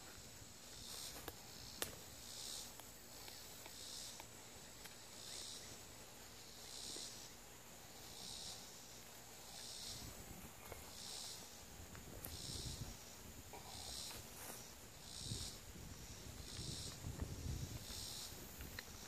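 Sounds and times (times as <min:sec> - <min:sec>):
high rasping hiss: 0:00.0 - 0:19.0.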